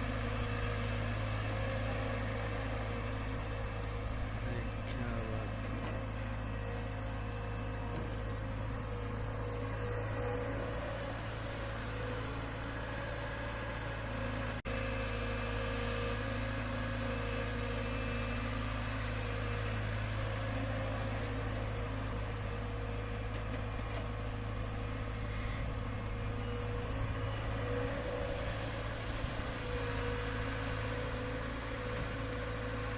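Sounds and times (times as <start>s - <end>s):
tractor diesel engine droning: 0.0s - 32.9s.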